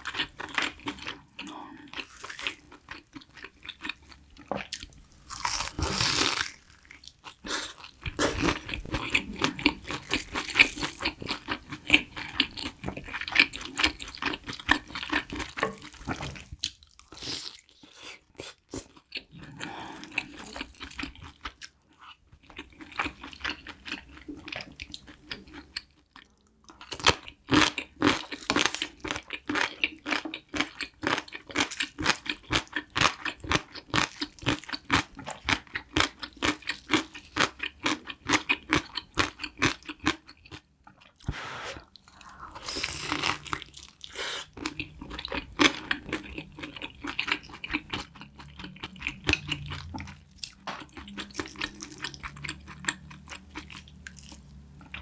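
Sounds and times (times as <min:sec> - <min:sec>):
crunching and chewing fried cutlet: 0:00.0 - 0:41.3, 0:41.9 - 0:55.0.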